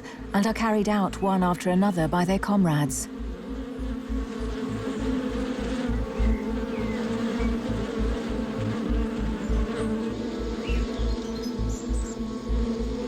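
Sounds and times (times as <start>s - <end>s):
bees buzzing: 0.0s - 13.0s
low irregular throb: 0.0s - 13.0s.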